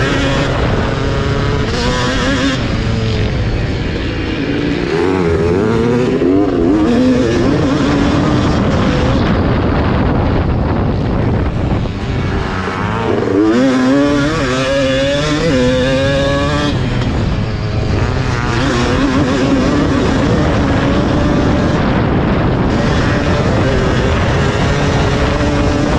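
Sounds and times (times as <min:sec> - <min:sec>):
motocross engine revving: 0:00.0 - 0:25.9.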